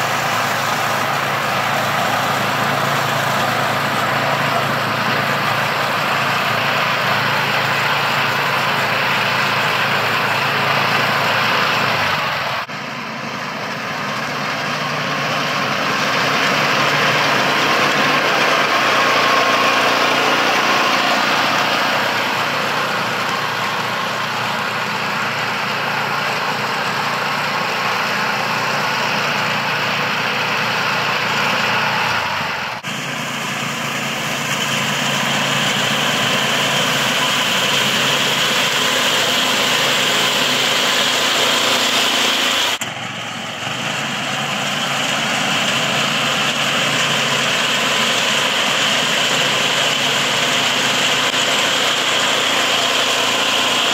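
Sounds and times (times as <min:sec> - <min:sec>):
small engine running under load: 0:00.0 - 0:53.9.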